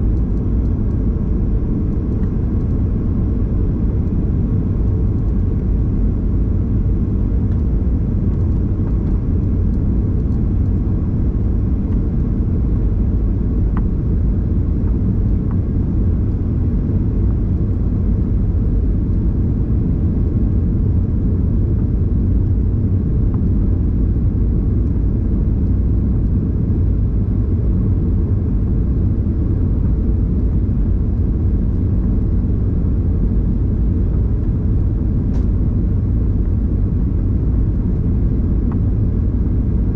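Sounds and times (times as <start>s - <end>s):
airplane engines roaring in cabin: 0.0s - 39.9s.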